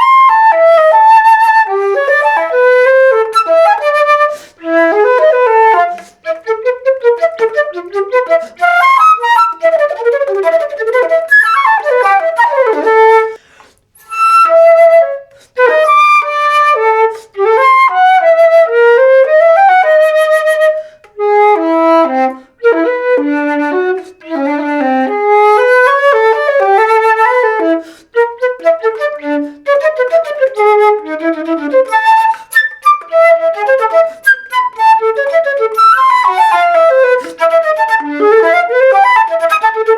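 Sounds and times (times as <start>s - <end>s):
solo flute playing: 0.0s - 39.9s.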